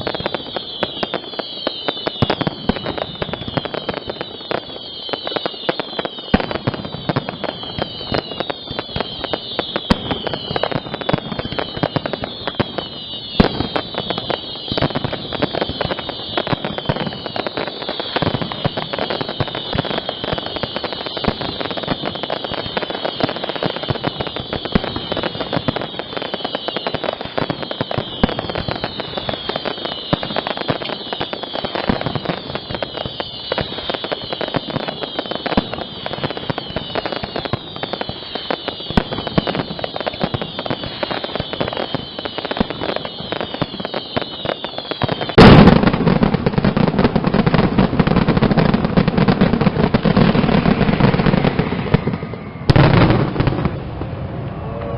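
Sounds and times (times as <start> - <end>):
barrage of firework bangs: 0.0 - 54.9
falling whistles of fireworks: 0.0 - 54.9
fireworks crackling: 0.0 - 54.9.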